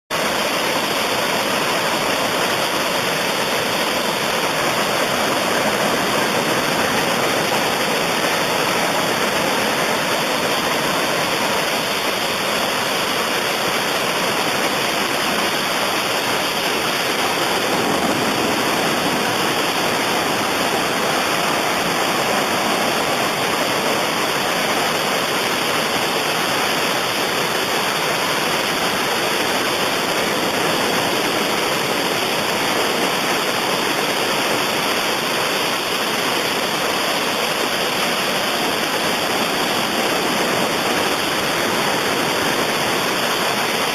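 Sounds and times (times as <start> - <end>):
ocean surf roaring: 0.1 - 43.9.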